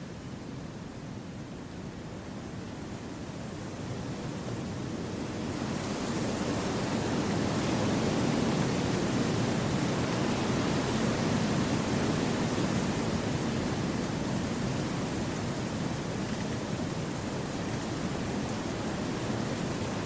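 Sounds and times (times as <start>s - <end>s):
wind rushing through trees: 0.9s - 20.0s.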